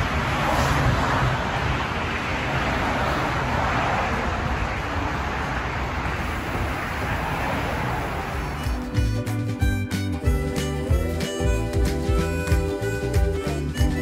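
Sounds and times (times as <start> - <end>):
highway traffic rushing: 0.0 - 13.9.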